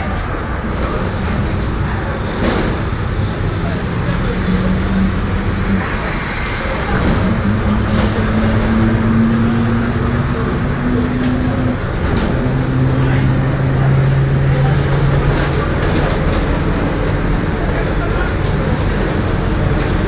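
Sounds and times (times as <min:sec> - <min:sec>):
bus differential drone: 0:00.0 - 0:20.0
road and cabin noise: 0:00.0 - 0:20.0.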